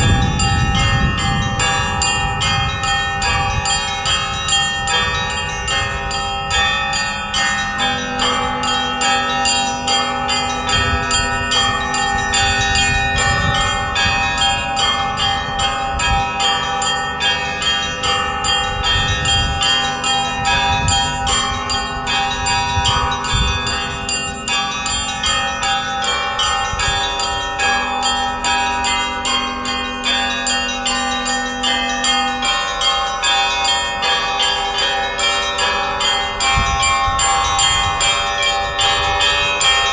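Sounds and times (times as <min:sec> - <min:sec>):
deep bell tone: 0:00.0 - 0:39.9
hum of larger bells: 0:00.0 - 0:39.9
small bells ringing rapidly: 0:00.0 - 0:39.9.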